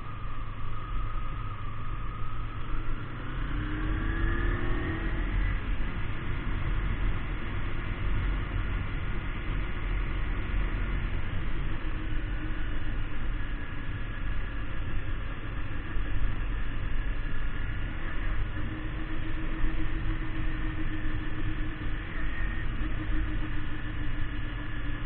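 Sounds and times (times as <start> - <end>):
motorcycle engine drone: 0.0 - 25.0.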